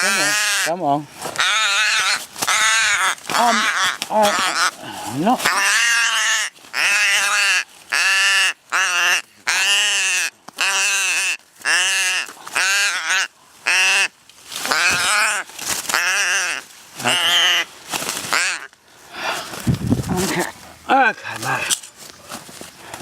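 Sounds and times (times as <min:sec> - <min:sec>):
raven giving harsh calls: 0:00.0 - 0:18.8.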